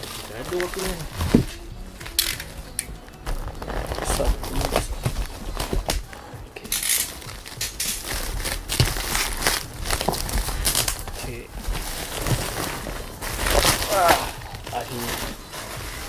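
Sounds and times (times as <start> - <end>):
packaging rustling and crinkling: 0.0 - 16.0.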